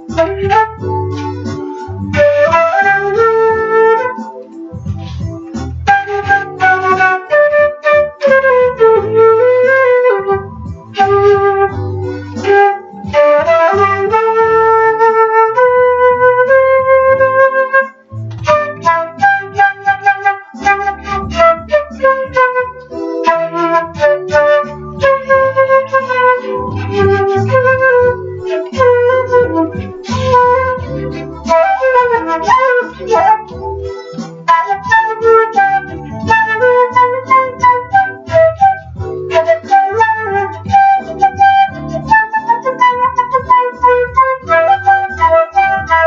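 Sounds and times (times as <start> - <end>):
flute-like melody: 0.0 - 46.0.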